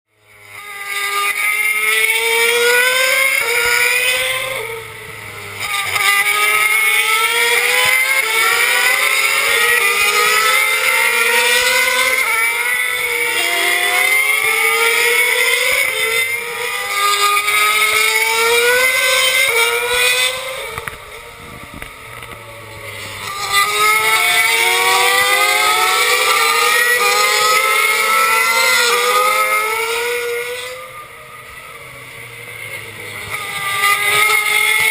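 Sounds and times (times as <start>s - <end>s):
race car engines accelerating: 0.1s - 34.9s.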